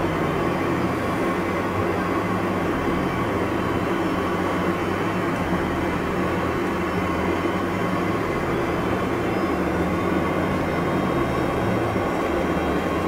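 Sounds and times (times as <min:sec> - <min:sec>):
constant low hum: 0:00.0 - 0:13.0
simulated jet engine drone: 0:00.0 - 0:13.0.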